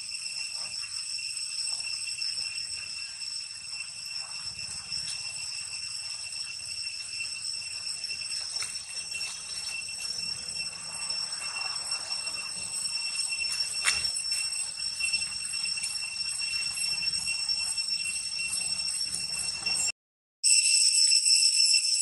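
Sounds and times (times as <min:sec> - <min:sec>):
cicadas singing: 0:00.0 - 0:19.8.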